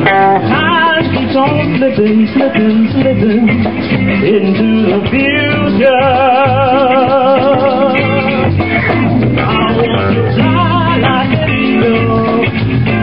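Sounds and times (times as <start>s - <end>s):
drums: 0.0s - 13.0s
electric guitar: 0.0s - 13.0s
person singing: 0.0s - 13.0s.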